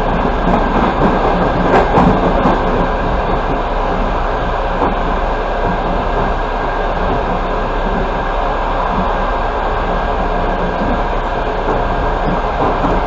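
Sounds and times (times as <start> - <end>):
train wheels rumbling on rails: 0.0 - 13.0
wheel clacks over rail joints: 0.0 - 13.0.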